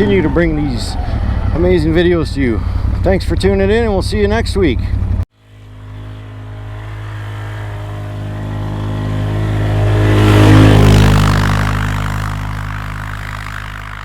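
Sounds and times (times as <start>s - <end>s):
atv engine driving past: 0.0s - 14.0s.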